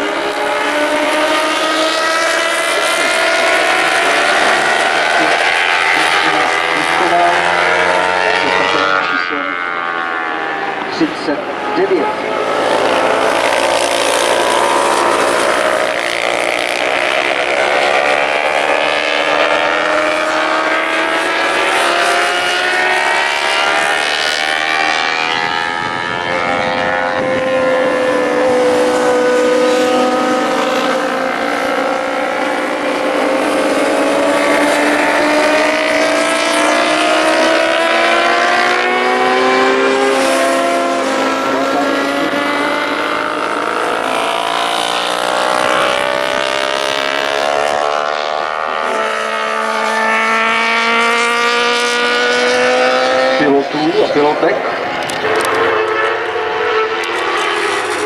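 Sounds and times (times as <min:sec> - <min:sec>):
race motorcycles passing: 0:00.0 - 0:58.0.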